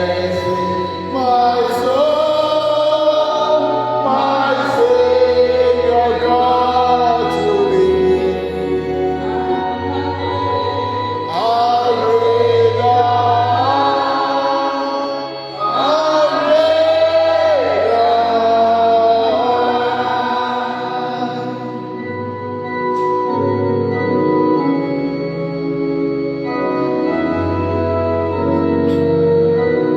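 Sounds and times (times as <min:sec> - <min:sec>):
gospel voices singing: 0:00.0 - 0:29.9
organ and bass accompaniment: 0:00.0 - 0:29.9.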